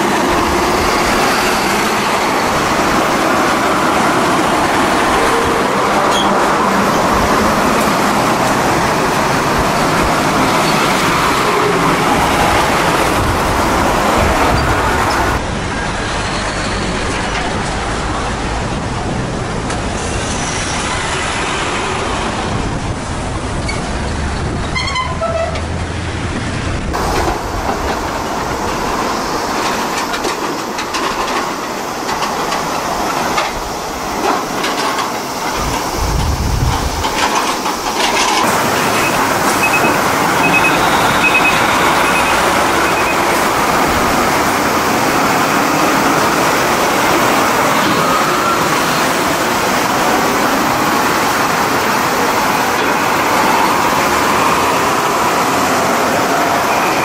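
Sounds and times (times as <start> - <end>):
heavy trucks driving past: 0.0 - 57.0.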